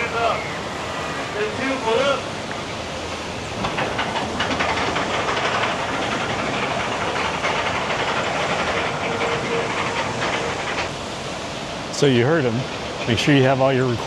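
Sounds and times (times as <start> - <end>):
ride machinery clattering: 0.0 - 14.0
water rushing and hissing: 0.0 - 14.0.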